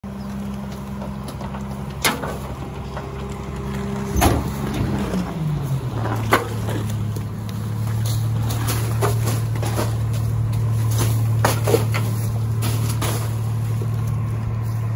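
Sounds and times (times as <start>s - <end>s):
garbage truck engine droning: 0.0s - 14.9s.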